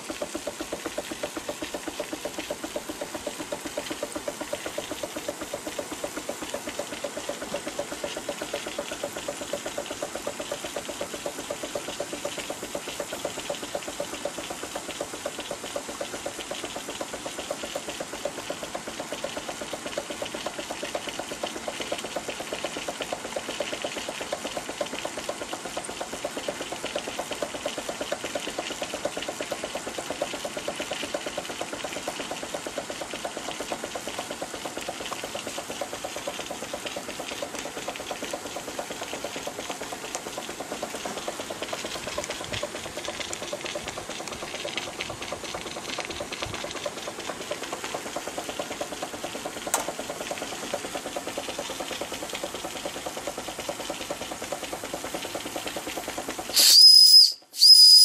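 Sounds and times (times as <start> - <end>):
steam engine mechanical beat: 0.0 - 58.0.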